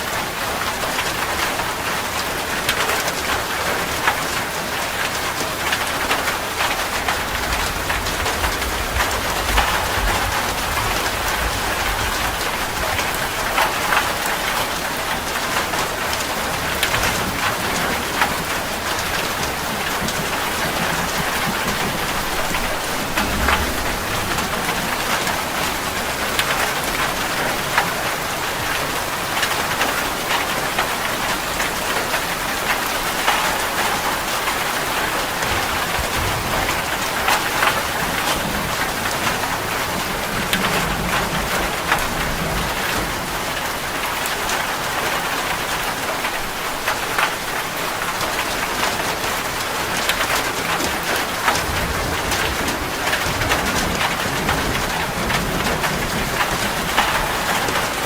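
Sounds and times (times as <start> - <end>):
rain drumming on a metal roof: 0.0 - 58.0
thunder rumbling: 5.6 - 46.7, 49.3 - 58.0.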